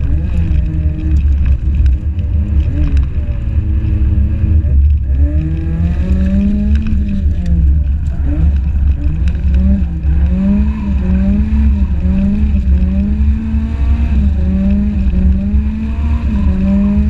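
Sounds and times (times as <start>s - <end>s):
car engine revving: 0.0s - 17.0s
heavy low rumble: 0.0s - 17.0s.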